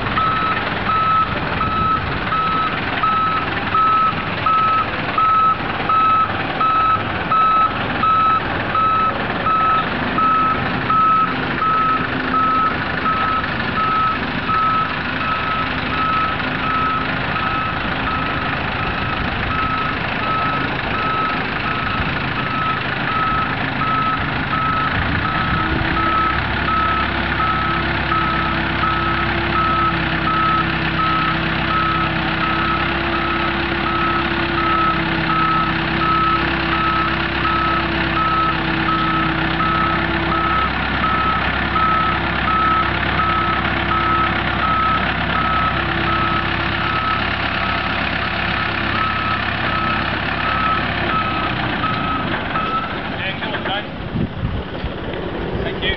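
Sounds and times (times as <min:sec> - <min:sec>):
hoist engine running: 0:00.0 - 0:55.9.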